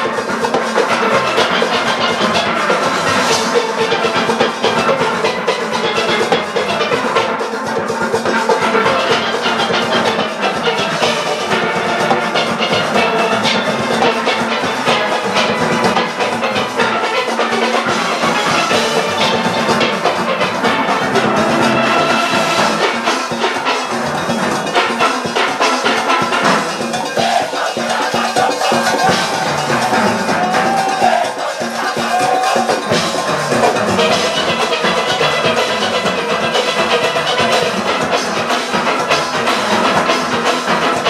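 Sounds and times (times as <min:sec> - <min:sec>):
drums and percussion: 0:00.0 - 0:41.0
steelpans playing melody: 0:00.0 - 0:41.0.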